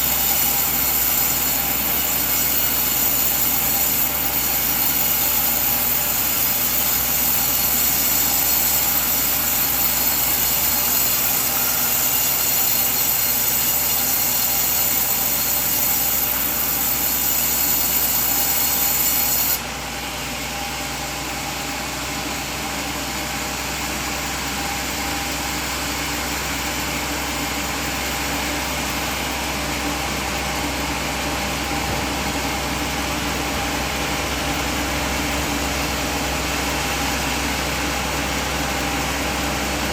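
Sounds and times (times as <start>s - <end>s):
band saw cutting log: 0.0s - 39.9s
sawmill machine hum: 0.0s - 39.9s.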